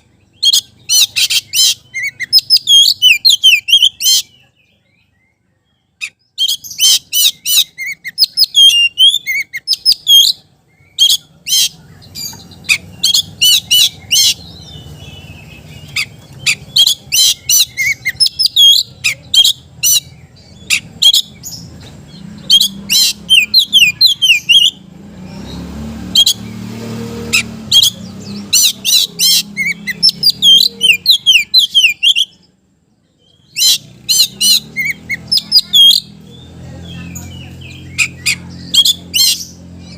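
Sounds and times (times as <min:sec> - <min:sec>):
bird singing chirps and whistles: 0:00.2 - 0:32.5, 0:33.1 - 0:39.9.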